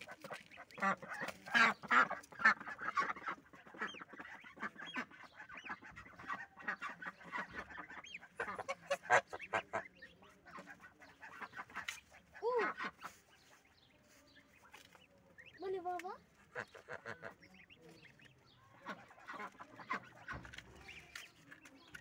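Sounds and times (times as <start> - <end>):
goose calling: 0.0 - 13.8, 16.4 - 21.3
goslings peeping: 0.0 - 22.0.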